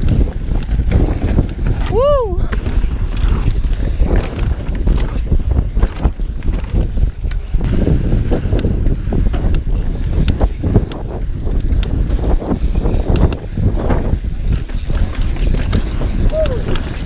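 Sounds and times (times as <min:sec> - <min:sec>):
bike clicks and rattles: 0:00.0 - 0:17.0
tyres rumbling on dirt: 0:00.0 - 0:17.0
wind rushing over microphone: 0:00.0 - 0:17.0.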